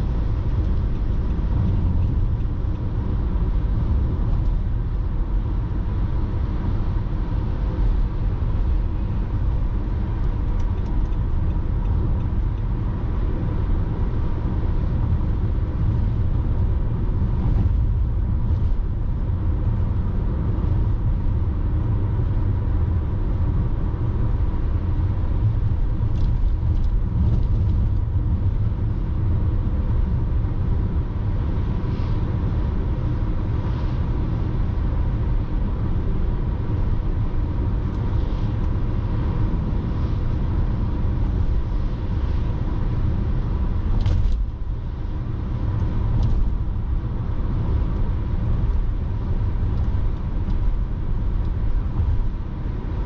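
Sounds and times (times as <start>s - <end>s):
car driving on road: 0.0s - 53.0s.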